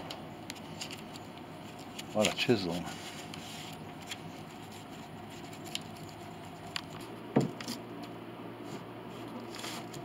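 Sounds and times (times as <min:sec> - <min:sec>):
low workshop hum: 0:00.0 - 0:10.0.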